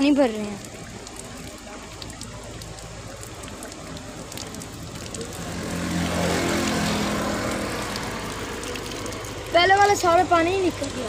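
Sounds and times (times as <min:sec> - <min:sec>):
water filling a plastic bottle: 0:00.0 - 0:11.0.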